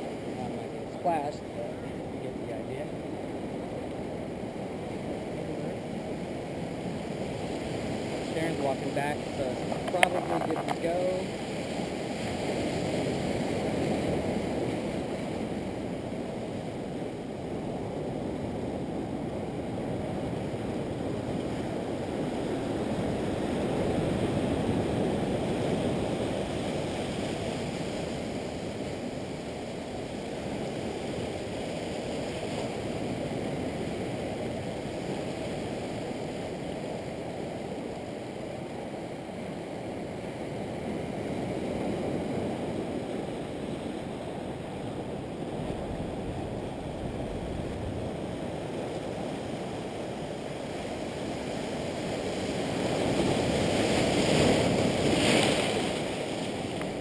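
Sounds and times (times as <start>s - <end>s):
surf washing against rocks: 0.0s - 3.5s, 4.6s - 57.0s.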